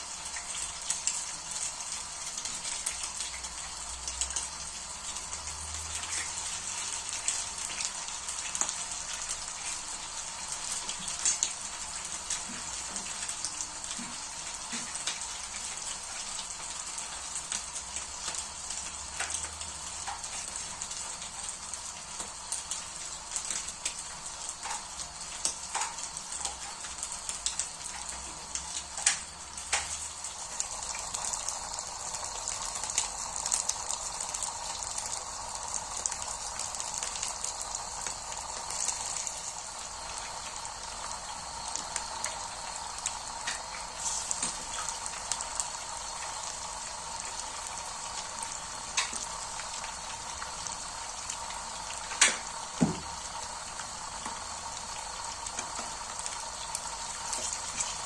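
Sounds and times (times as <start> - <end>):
patties sizzling in oil: 0.0 - 58.0.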